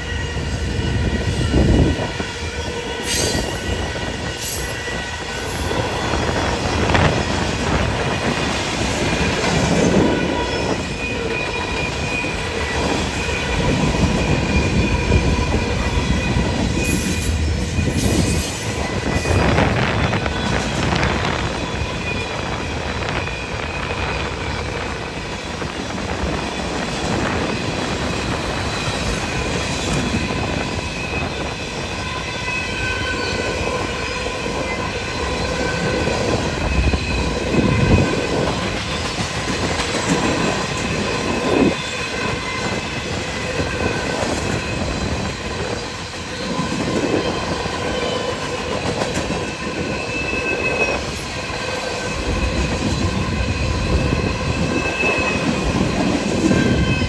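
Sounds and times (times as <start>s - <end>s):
train cars rumbling on rails: 0.0s - 57.0s
train wheels squealing: 0.0s - 57.0s.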